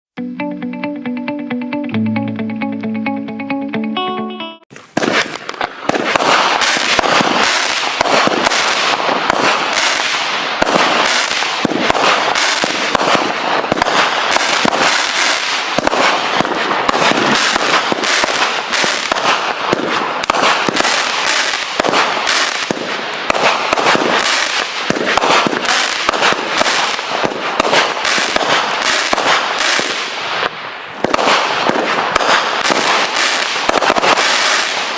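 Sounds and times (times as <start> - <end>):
fireworks bangs and pops: 4.7 - 34.9.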